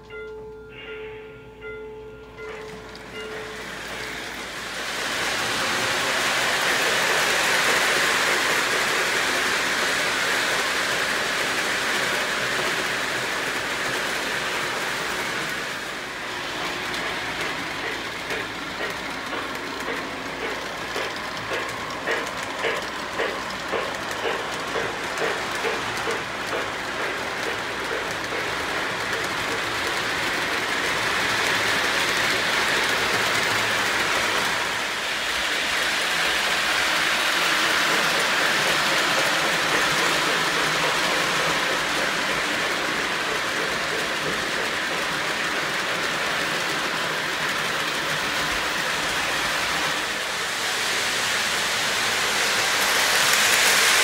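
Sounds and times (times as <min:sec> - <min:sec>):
model train running on track: 0:00.0 - 0:54.0
steady hiss: 0:03.3 - 0:54.0.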